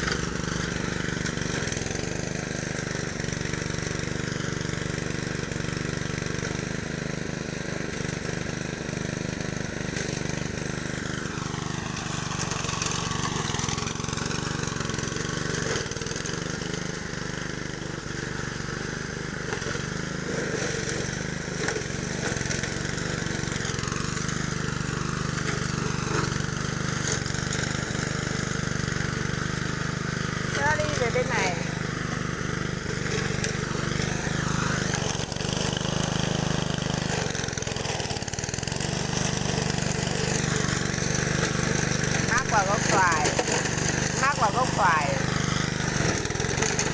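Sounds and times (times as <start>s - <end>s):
lawn mower engine running: 0.0s - 46.9s.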